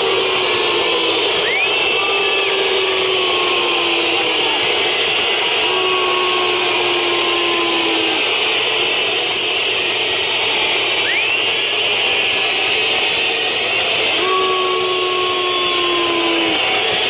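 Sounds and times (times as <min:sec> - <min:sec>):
short rising whistle: 0:00.0 - 0:17.0
stadium crowd noise: 0:00.0 - 0:17.0.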